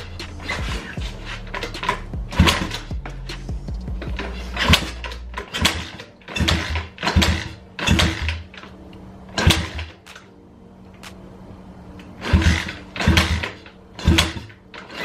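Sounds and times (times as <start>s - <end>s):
engine cranking without firing: 0.0s - 10.3s, 12.0s - 15.0s.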